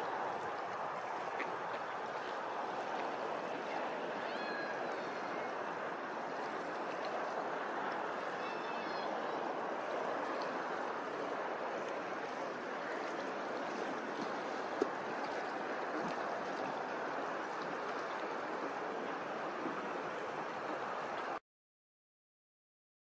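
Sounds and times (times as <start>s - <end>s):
water lapping and rippling: 0.0s - 21.4s.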